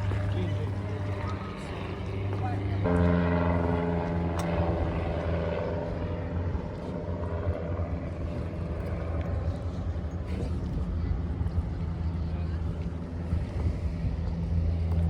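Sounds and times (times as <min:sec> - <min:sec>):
engine droning low: 0:00.0 - 0:15.0.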